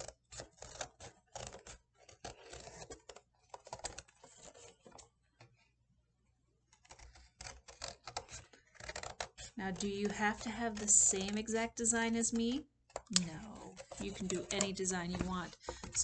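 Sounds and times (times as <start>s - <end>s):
scissors cutting cardboard: 0.0s - 5.7s, 6.6s - 16.0s.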